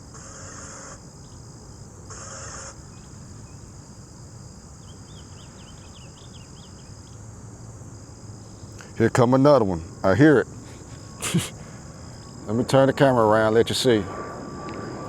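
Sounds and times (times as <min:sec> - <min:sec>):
crickets and insects singing: 0:00.0 - 0:15.0.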